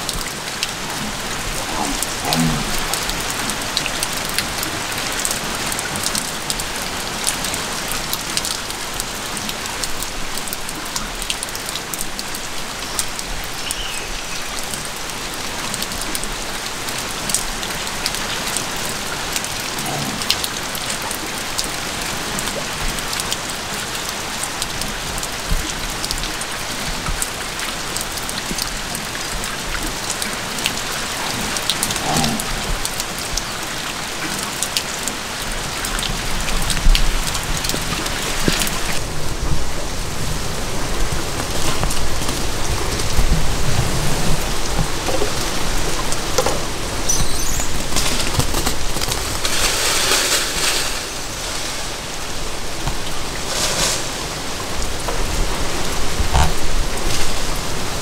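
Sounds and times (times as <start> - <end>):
raindrops ticking: 0.0 - 53.5
rain hissing: 0.0 - 58.0.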